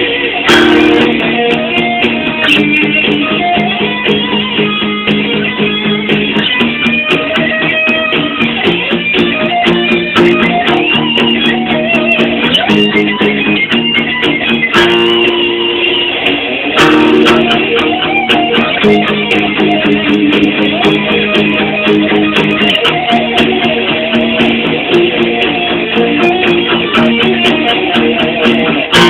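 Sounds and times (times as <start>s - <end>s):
heavy metal rhythm guitar: 0.0s - 29.0s.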